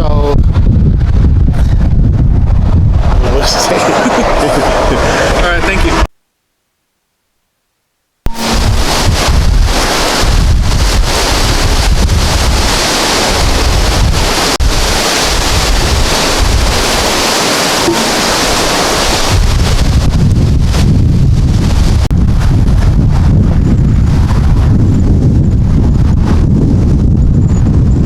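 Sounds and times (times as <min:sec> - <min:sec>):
wind gusting across microphone: 0:00.0 - 0:06.1, 0:08.3 - 0:28.0.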